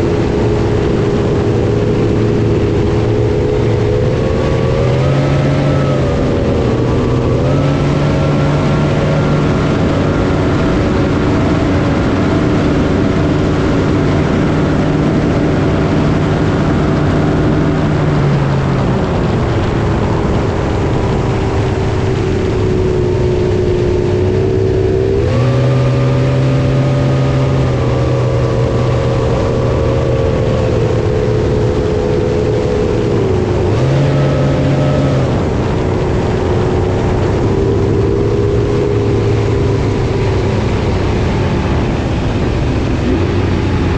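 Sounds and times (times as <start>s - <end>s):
boat engine running: 0.0s - 43.9s
water rushing: 0.0s - 43.9s
wind rushing: 0.0s - 43.9s.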